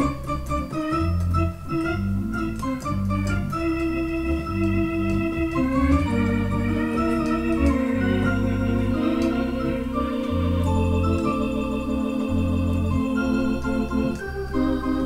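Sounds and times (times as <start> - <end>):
electronic keyboard chords: 0.0 - 15.0
keyboard bass line: 0.0 - 15.0.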